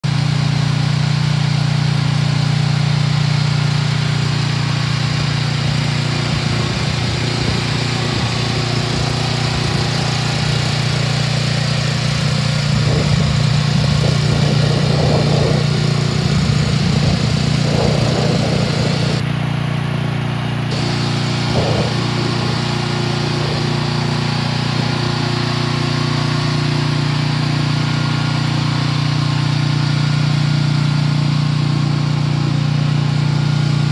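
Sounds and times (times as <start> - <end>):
excavator engine idling: 0.0 - 33.9.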